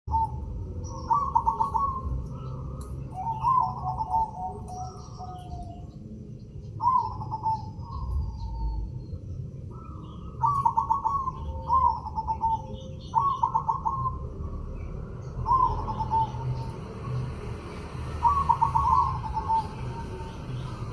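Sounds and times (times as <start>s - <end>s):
dove cooing: 0.1s - 6.1s, 6.7s - 9.0s, 9.7s - 20.9s
small birds chirping: 0.1s - 20.9s.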